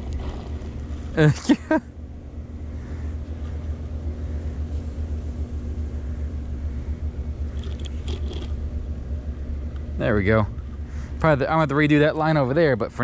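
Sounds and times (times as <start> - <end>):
faint hum: 0.0 - 13.0
low rumble: 0.0 - 13.0.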